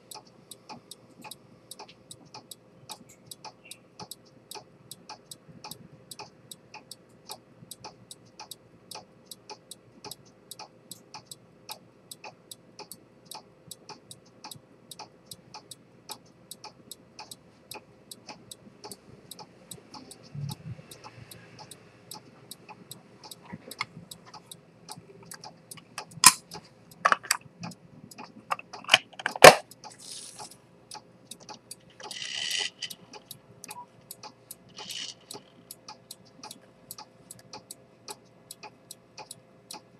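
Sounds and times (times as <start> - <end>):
watch ticking: 0.0 - 39.9.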